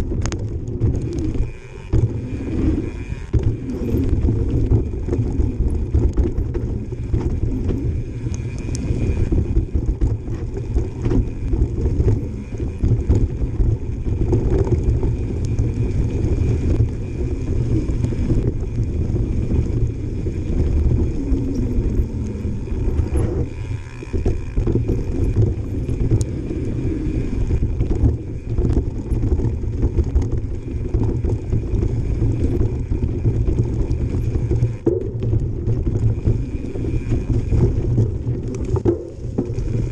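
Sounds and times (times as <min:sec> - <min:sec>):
bike rattling and knocking: 0:00.0 - 0:39.9
bike tyres rumbling on dirt: 0:00.0 - 0:39.9
wind on microphone: 0:00.0 - 0:39.9.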